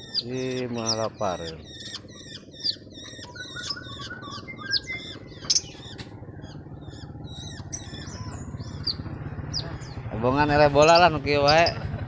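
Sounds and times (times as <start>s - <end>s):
sharp bird calls: 0.0s - 12.0s
small birds chirping: 0.0s - 12.0s
steady low hum: 0.0s - 12.0s.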